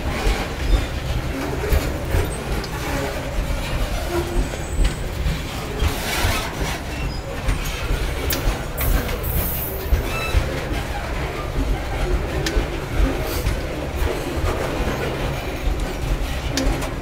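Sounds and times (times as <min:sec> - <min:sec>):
freight train rumbling past: 0:00.0 - 0:17.0
train clacks and rattles: 0:00.0 - 0:17.0.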